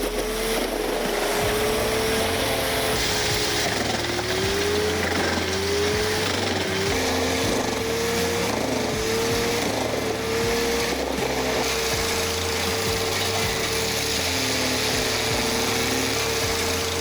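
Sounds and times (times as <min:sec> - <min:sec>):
grinding of wood being chipped: 0:00.0 - 0:17.0
wood chipper machine whine: 0:00.0 - 0:17.0.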